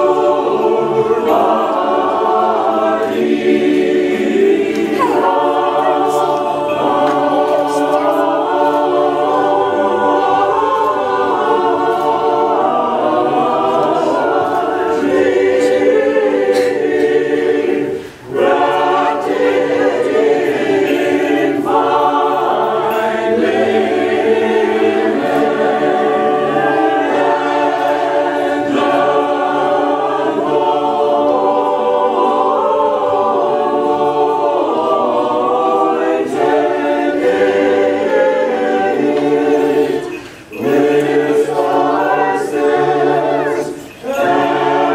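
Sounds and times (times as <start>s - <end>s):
choir singing unaccompanied chant: 0.0s - 44.9s.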